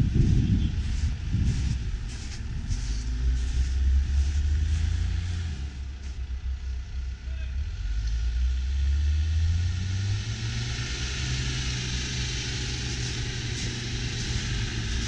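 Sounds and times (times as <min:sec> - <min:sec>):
distant engine rumbling: 0:00.0 - 0:15.0.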